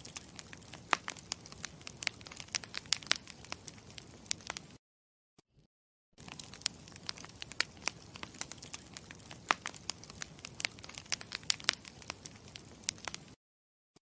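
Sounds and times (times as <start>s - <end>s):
campfire crackling: 0.0s - 4.8s, 6.2s - 13.4s.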